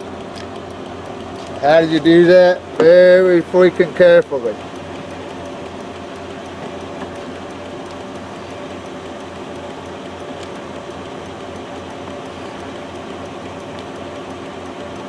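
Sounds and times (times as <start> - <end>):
machine hum with pulsing throb: 0.0 - 15.0.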